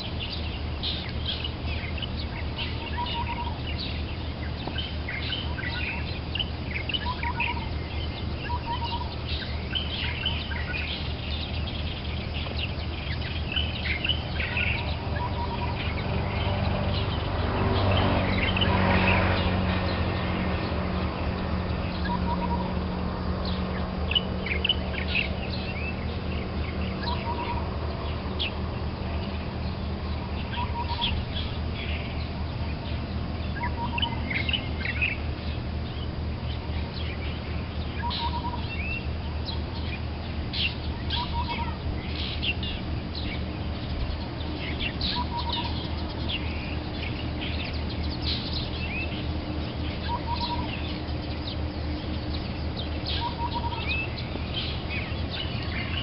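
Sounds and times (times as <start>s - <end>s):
birds chirping high notes: 0.0s - 56.0s
steady low hum: 0.0s - 56.0s.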